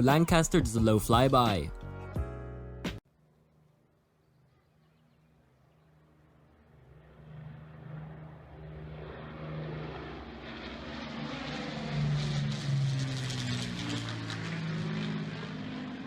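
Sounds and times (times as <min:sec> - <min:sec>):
piston aircraft engines droning: 0:03.1 - 0:16.0.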